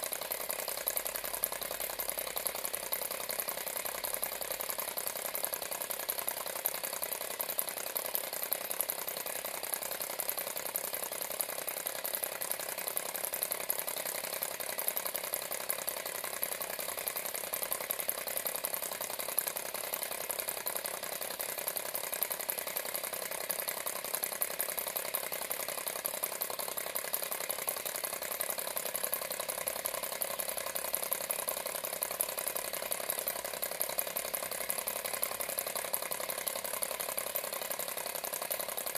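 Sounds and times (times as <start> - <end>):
model engine clicking rattle: 0.0 - 38.9.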